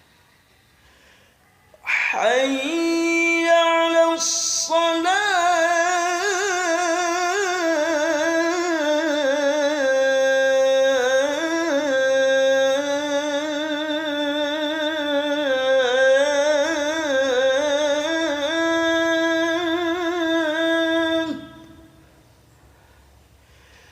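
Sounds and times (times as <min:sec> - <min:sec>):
man singing call to prayer: 0:01.8 - 0:22.1.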